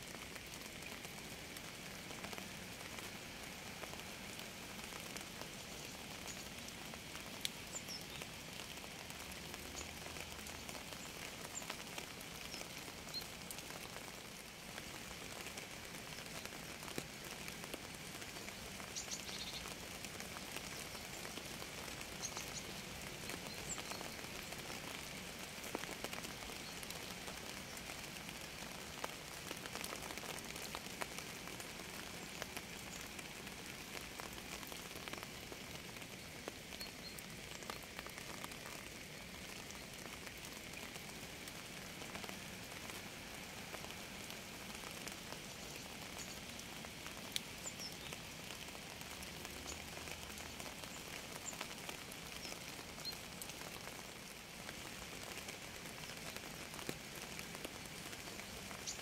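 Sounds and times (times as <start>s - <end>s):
steady rain falling: 0.0s - 59.0s
raindrops ticking: 0.1s - 59.0s.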